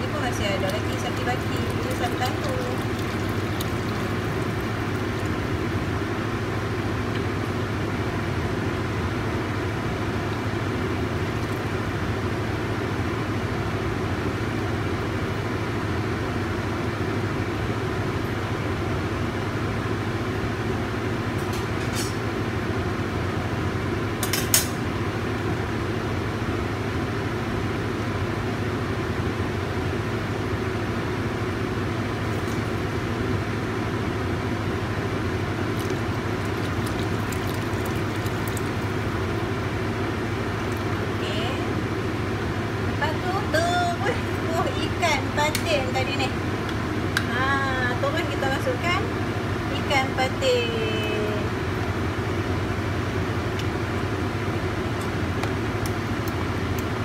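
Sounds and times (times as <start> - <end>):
stove rushing hum: 0.0 - 57.0.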